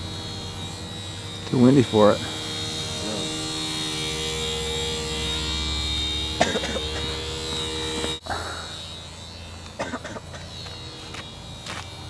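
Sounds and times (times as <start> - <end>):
rc plane motor buzzing whine: 0.0 - 12.0.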